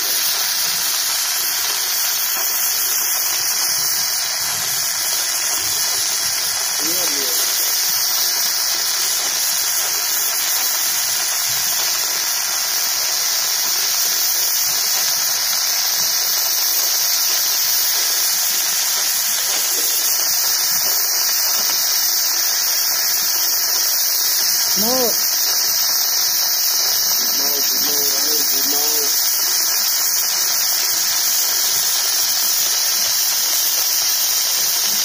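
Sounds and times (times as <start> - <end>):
welding arc hissing: 0.0 - 35.0.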